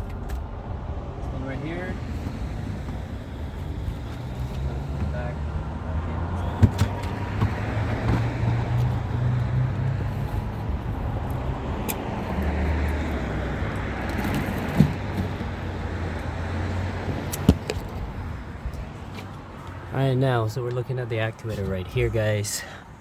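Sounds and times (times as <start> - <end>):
low rumble of vehicle engines: 0.0 - 23.0.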